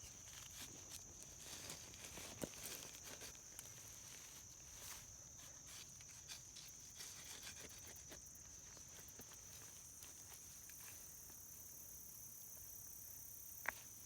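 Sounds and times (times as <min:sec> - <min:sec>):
crunching and rustling of soil: 0:00.0 - 0:11.8.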